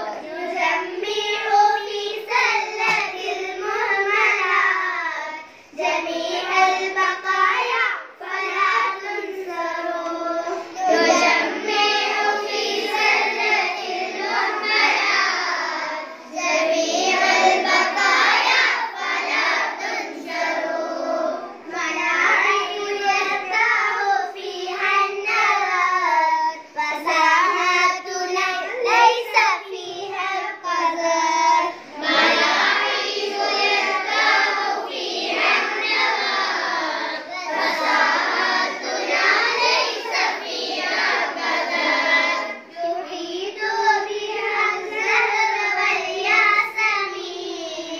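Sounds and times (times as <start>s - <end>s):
children chanting in unison: 0.0s - 47.9s.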